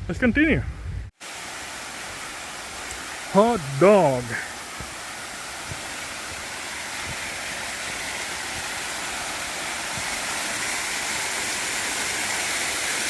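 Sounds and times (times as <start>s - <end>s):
waterfall rushing: 1.2s - 13.0s.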